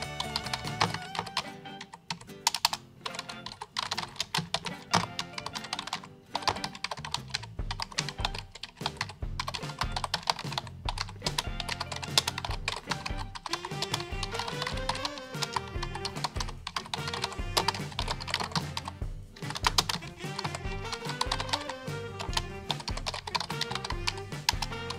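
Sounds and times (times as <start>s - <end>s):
background music: 0.0s - 24.9s
keyboard key clicks: 0.0s - 24.9s.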